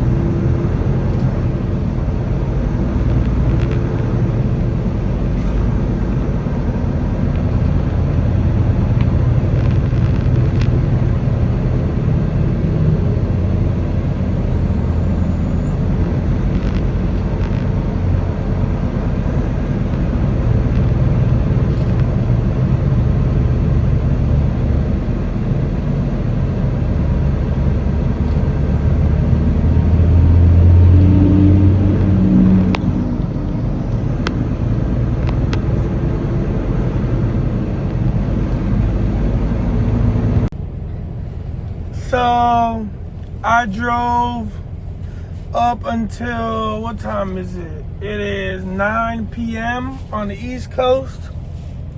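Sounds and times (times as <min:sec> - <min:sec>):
diesel truck engine rumble: 0:00.0 - 0:51.9
road noise: 0:00.0 - 0:51.9.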